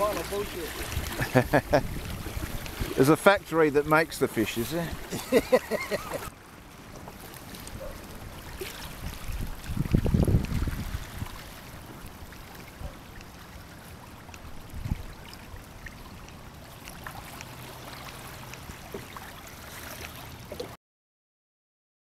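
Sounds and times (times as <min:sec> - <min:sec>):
small water splashes: 0:00.0 - 0:20.8
water lapping against kayak hull: 0:00.0 - 0:20.8.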